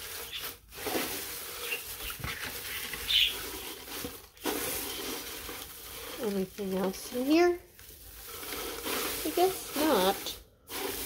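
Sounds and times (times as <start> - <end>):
shredded paper rustling: 0.0 - 11.0.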